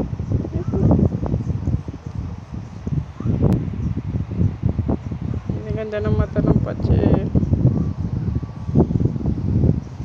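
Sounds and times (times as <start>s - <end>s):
rumbling crackling microphone noise: 0.0s - 10.0s.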